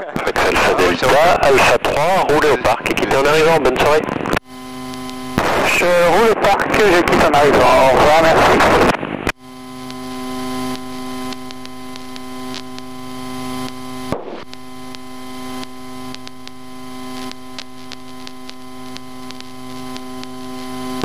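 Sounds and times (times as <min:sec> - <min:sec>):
electrical hum on intercom: 0:00.0 - 0:21.0.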